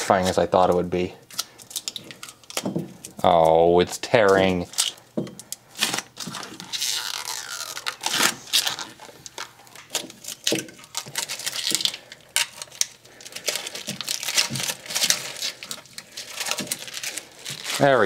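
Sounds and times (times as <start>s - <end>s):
plastic film peeling and crinkling: 0.0s - 18.0s.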